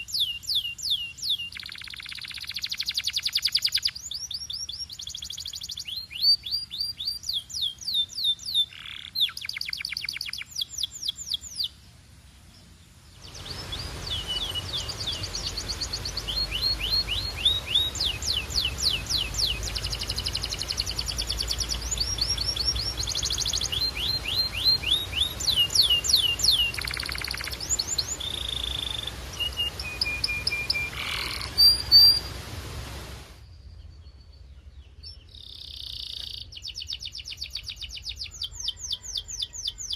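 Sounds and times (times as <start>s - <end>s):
canary singing in trills: 0.0s - 11.8s, 13.2s - 32.4s, 34.9s - 39.9s
steady low hiss: 0.0s - 38.6s.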